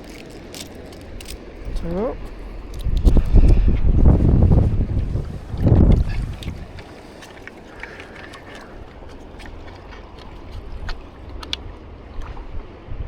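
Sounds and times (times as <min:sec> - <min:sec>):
water clicks and trickles: 0:00.0 - 0:03.4, 0:04.1 - 0:12.8
shallow water: 0:00.0 - 0:13.0
wind rumble: 0:00.0 - 0:13.0.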